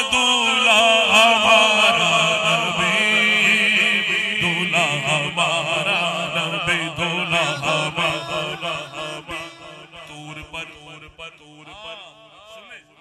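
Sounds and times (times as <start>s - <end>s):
person chanting melismatic vocals: 0.0s - 13.0s.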